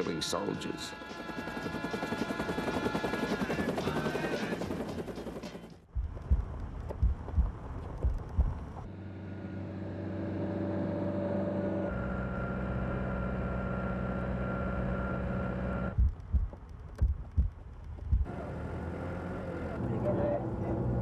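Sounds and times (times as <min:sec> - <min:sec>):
vehicle engine running: 0:01.4 - 0:21.0.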